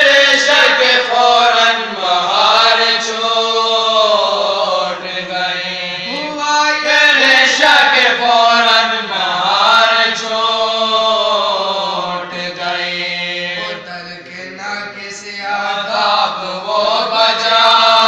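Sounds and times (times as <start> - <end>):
men chanting a lament in unison: 0.0 - 18.0.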